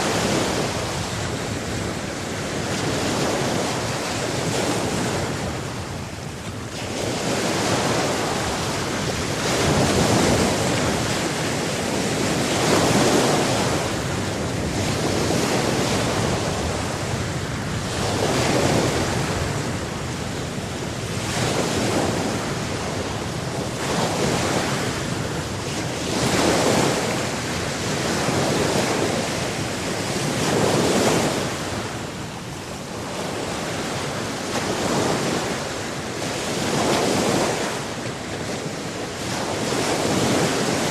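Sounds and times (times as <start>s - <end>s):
waves breaking on shore: 0.0s - 40.9s
wind on microphone: 0.0s - 40.9s.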